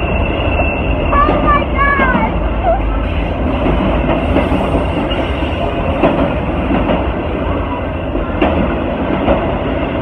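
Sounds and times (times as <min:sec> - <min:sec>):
train wheels rumbling on rail: 0:00.0 - 0:10.0
wheels clacking over rail joints: 0:01.2 - 0:10.0.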